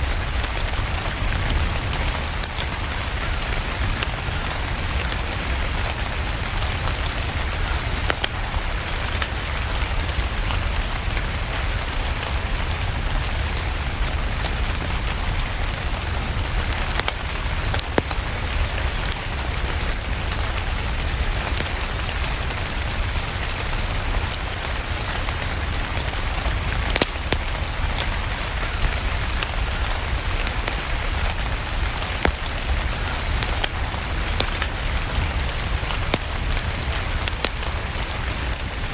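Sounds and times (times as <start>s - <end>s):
steady rain: 0.0s - 38.9s
wood fire crackling: 0.0s - 38.9s.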